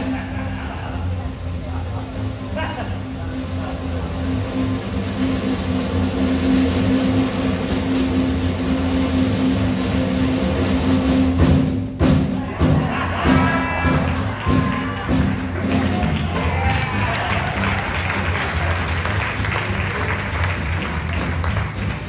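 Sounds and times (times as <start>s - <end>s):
small jazz band playing: 1.0s - 22.0s.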